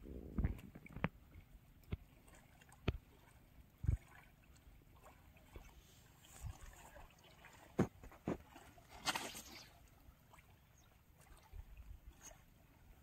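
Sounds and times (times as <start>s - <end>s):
water splash: 0.0s - 10.6s.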